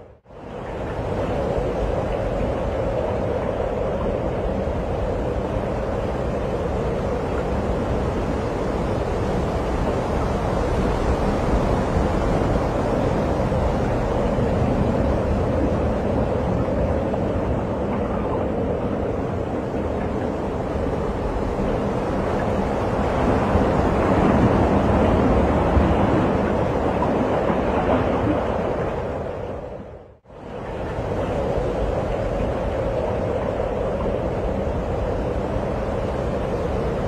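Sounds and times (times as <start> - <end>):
strong wind rushing: 0.0 - 37.0
wind buffeting microphone: 0.0 - 37.0.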